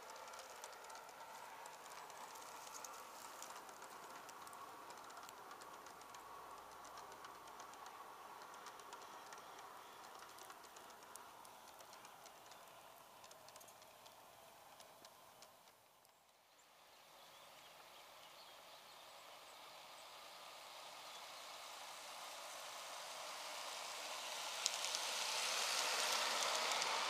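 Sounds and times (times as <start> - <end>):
model train wheels clicking: 0.0 - 16.4, 18.9 - 27.0.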